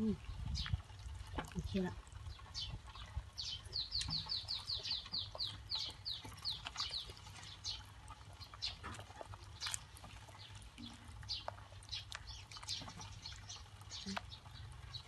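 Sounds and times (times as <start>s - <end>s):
bird chirping: 1.7s - 15.0s.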